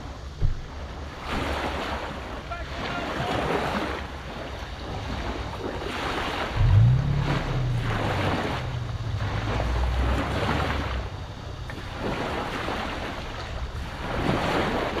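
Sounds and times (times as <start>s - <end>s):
low steady hum: 0.0s - 15.0s
sea water surging: 0.0s - 15.0s
wind buffeting microphone: 0.0s - 15.0s.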